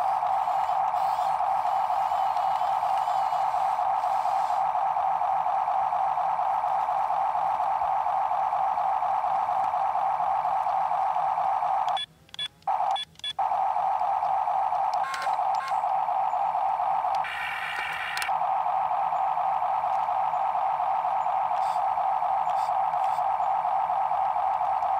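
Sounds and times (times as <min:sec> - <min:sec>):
toy excavator motors whirring: 0:00.0 - 0:18.4, 0:19.0 - 0:24.9.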